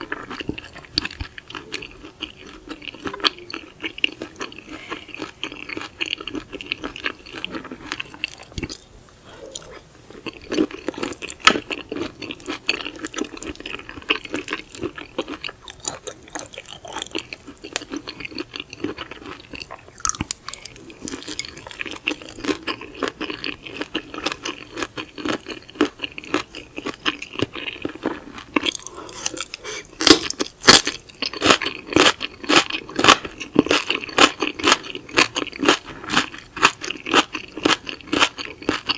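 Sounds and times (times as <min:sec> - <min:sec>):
wet crunchy chewing: 0:00.0 - 0:38.9.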